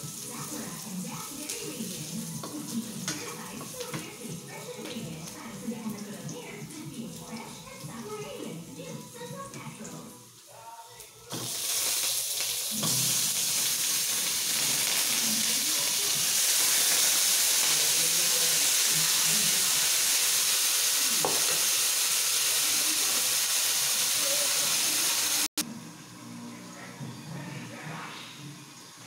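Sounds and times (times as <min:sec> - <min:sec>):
meat sizzling in hot oil: 0:00.0 - 0:10.5, 0:11.3 - 0:25.6.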